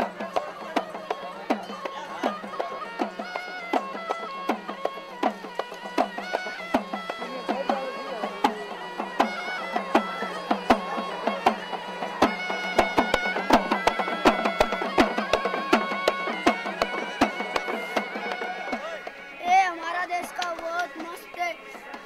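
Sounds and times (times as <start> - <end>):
folk melody over drone: 0.0 - 22.0.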